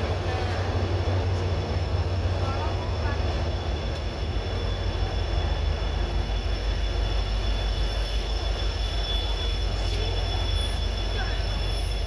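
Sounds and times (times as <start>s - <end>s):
thin high whine: 0.0s - 12.0s
train rumbling on rails: 0.0s - 12.0s.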